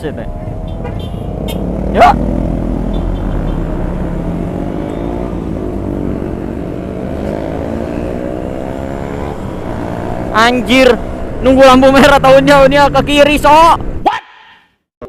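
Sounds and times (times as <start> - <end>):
motorcycle engine accelerating: 0.3 - 12.5.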